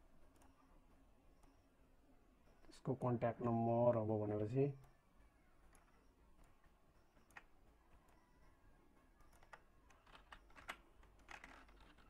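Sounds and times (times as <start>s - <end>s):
faint keyboard typing: 0.1s - 1.8s, 2.4s - 12.0s.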